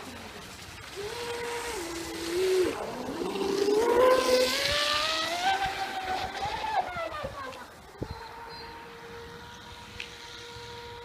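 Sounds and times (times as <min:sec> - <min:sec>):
electric motor whining: 0:00.9 - 0:11.0.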